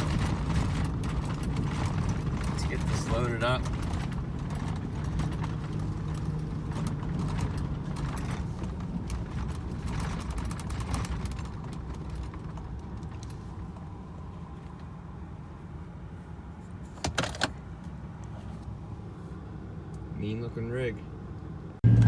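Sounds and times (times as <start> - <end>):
vehicle engine idling: 0.0 - 16.3, 17.5 - 22.0.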